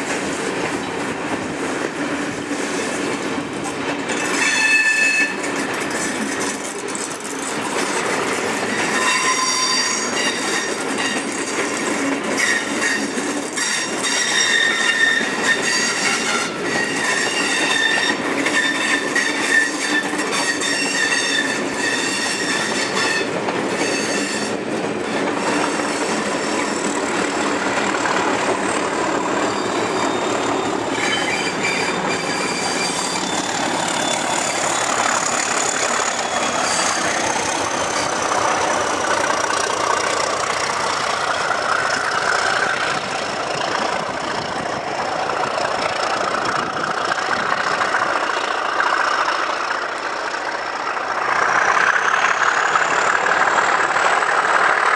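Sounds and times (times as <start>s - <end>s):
diesel locomotive passing: 0.0s - 54.9s
wheels rumbling and clicking on rail: 0.0s - 54.9s
train wheels squealing: 4.1s - 54.9s.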